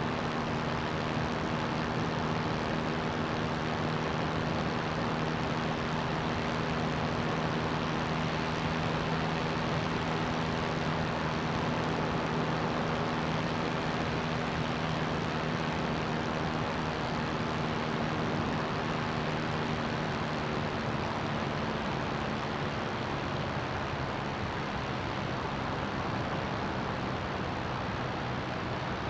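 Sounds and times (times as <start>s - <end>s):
ultralight engine and propeller droning: 0.0s - 29.0s.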